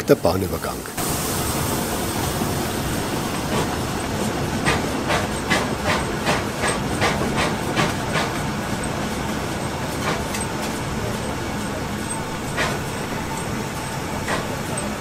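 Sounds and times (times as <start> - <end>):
steam locomotive exhaust chuffs: 1.0 - 15.0
carriage rumbling on rails: 2.6 - 15.0.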